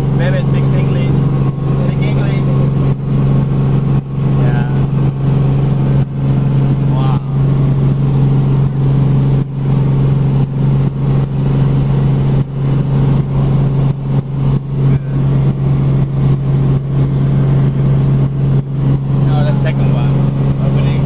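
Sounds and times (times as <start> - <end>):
helicopter engine and rotor: 0.0 - 21.0.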